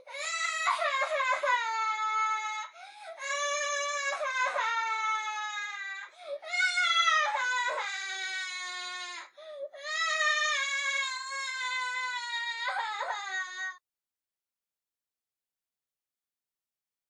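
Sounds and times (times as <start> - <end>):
baby crying: 0.0 - 13.8.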